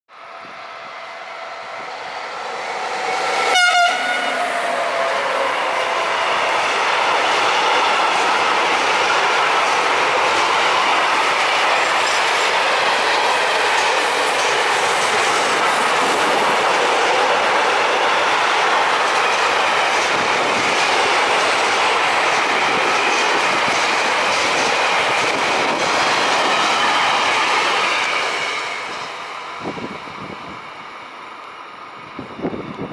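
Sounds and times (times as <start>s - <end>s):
freight train rolling past: 0.1s - 32.9s
wheels rattling over rail joints: 2.4s - 30.4s.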